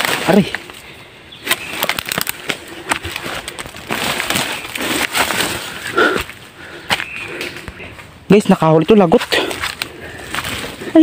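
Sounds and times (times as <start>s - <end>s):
branches rustling and snapping: 0.0s - 11.0s
footsteps crunching through dry leaves: 0.0s - 11.0s.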